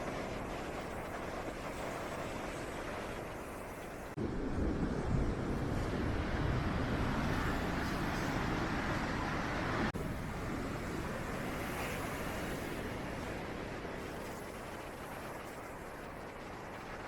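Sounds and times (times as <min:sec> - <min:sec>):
steady rushing noise: 0:00.0 - 0:17.0
wind buffeting microphone: 0:00.0 - 0:17.0.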